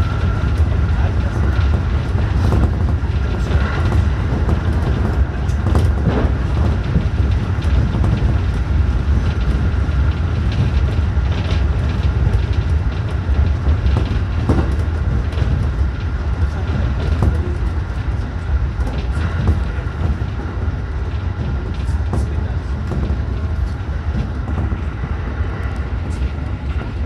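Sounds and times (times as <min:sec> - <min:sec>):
train running rumble: 0:00.0 - 0:27.0
wheels clicking on track: 0:00.0 - 0:27.0.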